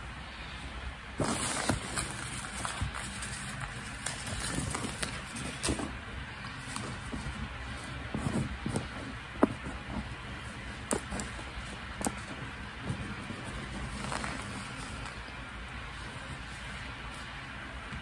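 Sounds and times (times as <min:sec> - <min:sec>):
face mask rustling: 0:01.1 - 0:18.0.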